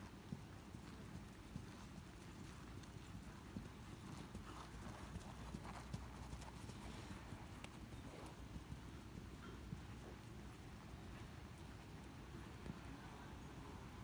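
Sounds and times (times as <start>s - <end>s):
horse hoofbeats: 0.0s - 12.8s.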